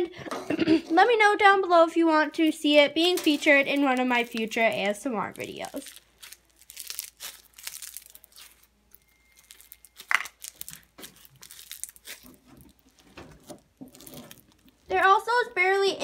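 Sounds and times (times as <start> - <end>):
beaded slime crunching and crackling: 2.4 - 15.3.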